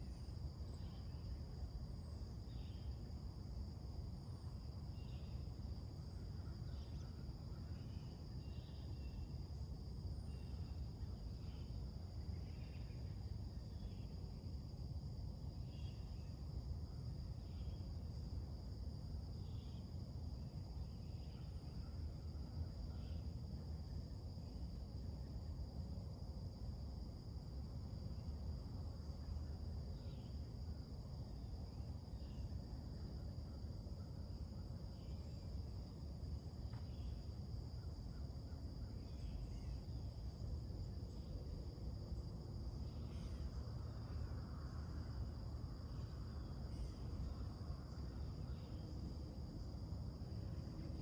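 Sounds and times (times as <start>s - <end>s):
insect chorus buzzing: 0.0s - 51.0s.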